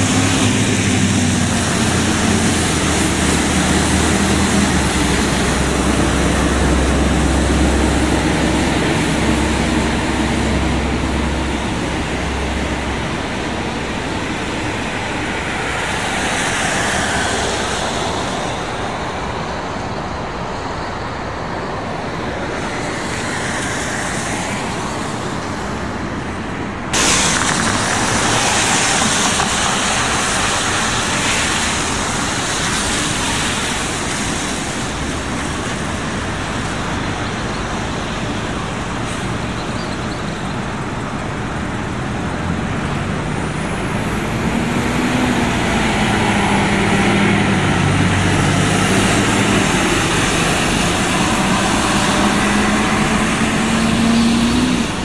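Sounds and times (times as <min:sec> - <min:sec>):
bus engine droning: 0:00.0 - 0:55.0.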